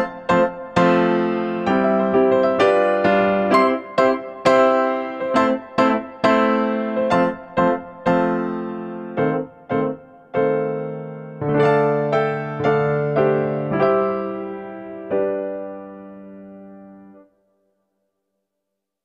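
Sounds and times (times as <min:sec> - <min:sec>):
slow gentle piano: 0:00.0 - 0:17.7.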